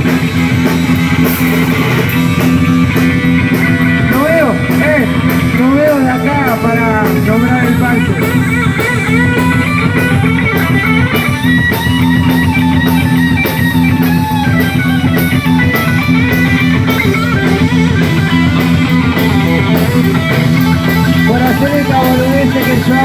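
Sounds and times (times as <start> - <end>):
drum kit: 0.0 - 23.0
electric guitar: 0.0 - 23.0.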